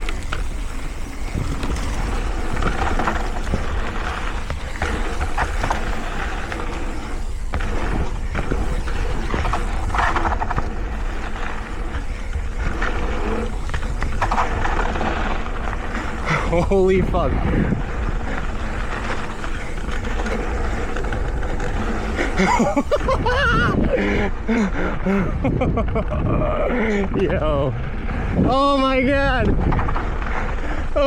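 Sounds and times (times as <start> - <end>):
bike tyres and rattling: 0.0 - 31.0
wind rumble on microphone: 0.0 - 31.0.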